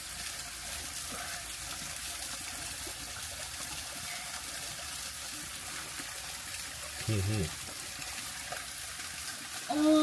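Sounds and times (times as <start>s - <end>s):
shallow river water flowing: 0.0s - 10.0s.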